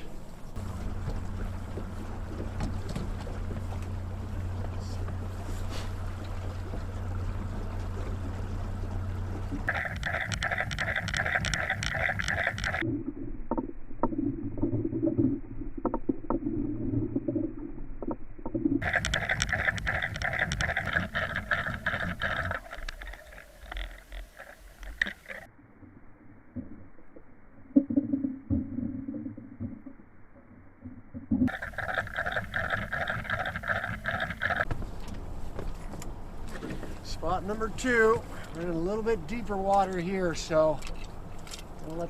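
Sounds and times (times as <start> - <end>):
boat motor running: 0.0 - 25.5, 30.9 - 42.0
water noise: 0.0 - 42.0.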